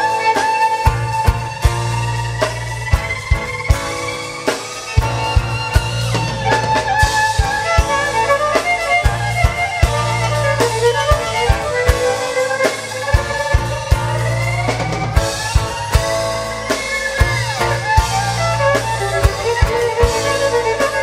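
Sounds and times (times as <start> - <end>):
drum kit beat: 0.0 - 21.0.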